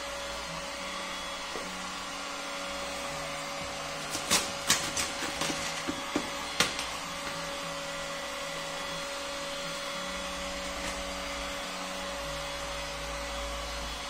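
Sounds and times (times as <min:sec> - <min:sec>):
heat gun humming: 0:00.0 - 0:14.0.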